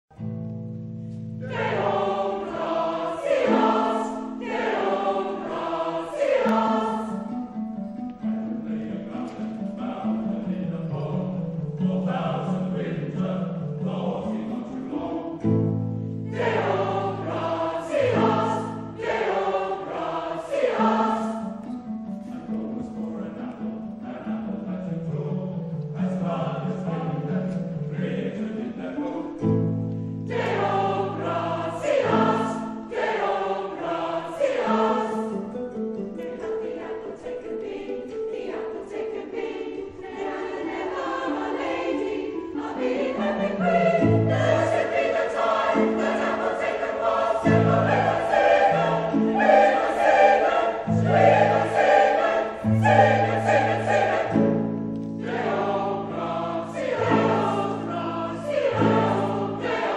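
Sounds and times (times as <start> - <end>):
mixed choir singing: 1.4 - 59.9.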